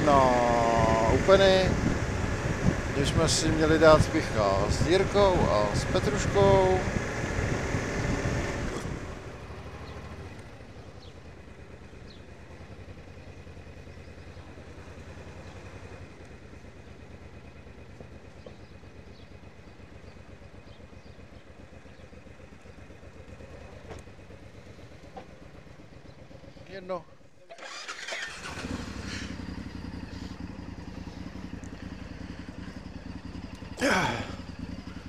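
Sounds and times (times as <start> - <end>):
wind and road noise: 0.0 - 26.8, 27.6 - 35.0
motorcycle engine idling: 0.0 - 35.0.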